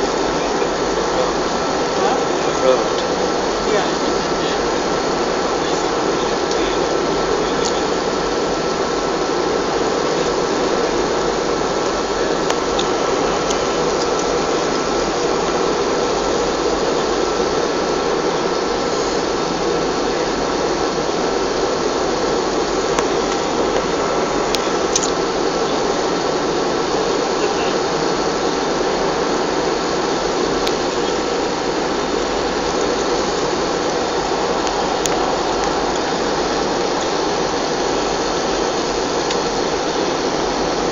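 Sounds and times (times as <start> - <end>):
jet engine and airflow rush: 0.0 - 40.9.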